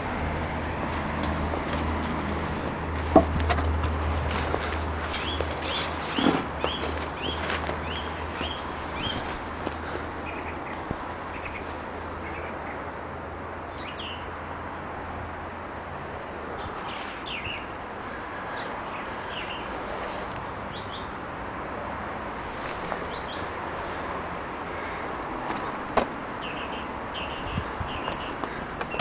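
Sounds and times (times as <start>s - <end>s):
outdoor background noise: 0.0s - 29.0s
wild birds chirping: 4.3s - 15.3s, 16.4s - 29.0s.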